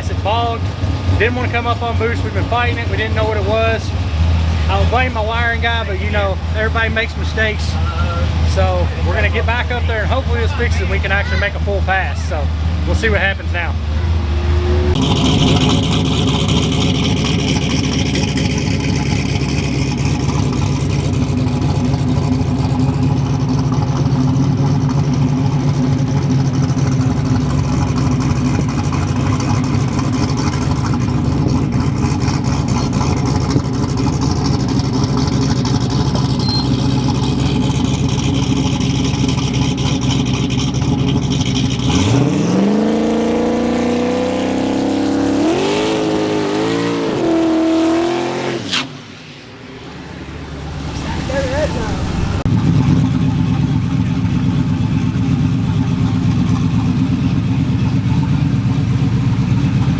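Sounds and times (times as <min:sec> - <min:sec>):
drag car engine revving: 0:00.0 - 0:59.9.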